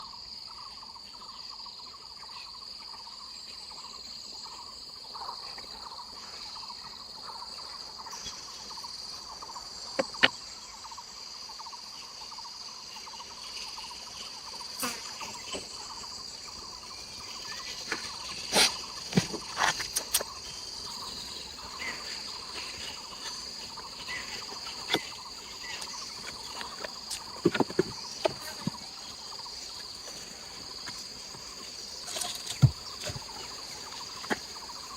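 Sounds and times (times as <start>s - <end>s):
insects droning: 0.0s - 34.9s
fast pulsing insect trill: 0.1s - 34.9s.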